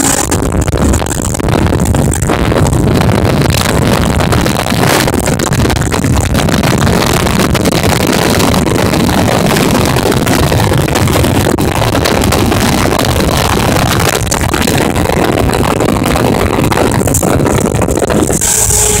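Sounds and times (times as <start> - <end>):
outboard motor running: 0.0 - 19.0
wind buffeting microphone: 0.0 - 19.0.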